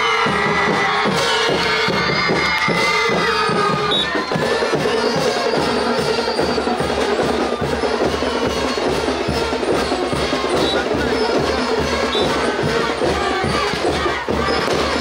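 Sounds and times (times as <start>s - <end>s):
marching band playing a march: 0.0s - 15.0s
marching drum beat: 0.0s - 15.0s.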